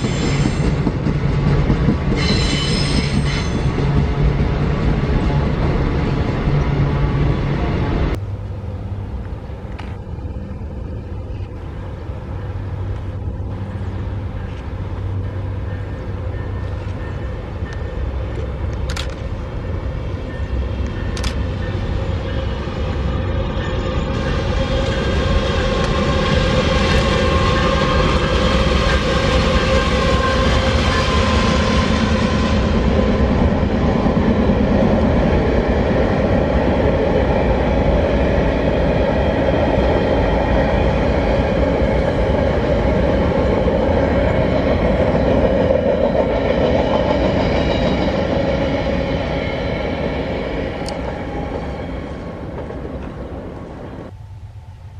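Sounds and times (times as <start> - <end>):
freight train rumbling and clattering: 0.0 - 54.9.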